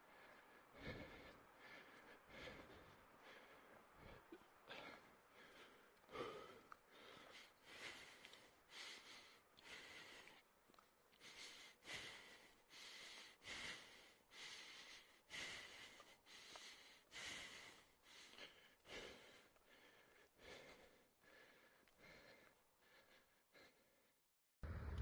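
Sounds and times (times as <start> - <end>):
person breathing heavily: 0.0 - 24.2.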